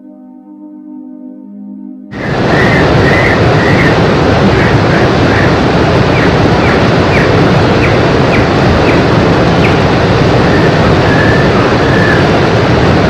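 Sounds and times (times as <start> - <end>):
fast stream rushing: 2.1 - 13.0.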